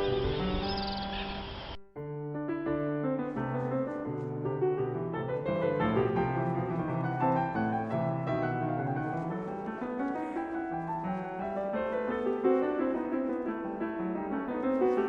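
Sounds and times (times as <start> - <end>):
lively piano music: 0.0 - 15.0.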